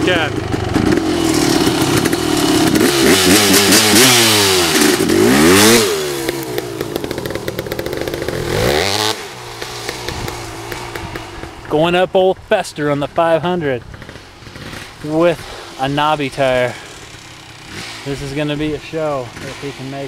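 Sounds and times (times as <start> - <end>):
dirt bike revving past: 0.0 - 12.2, 12.8 - 20.0.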